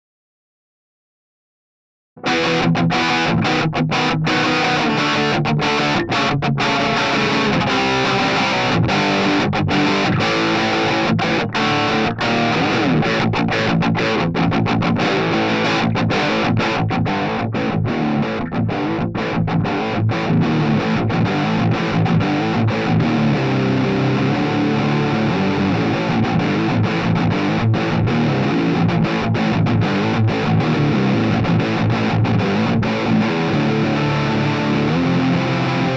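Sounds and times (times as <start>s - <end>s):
distorted electric guitar riff: 2.2s - 35.9s.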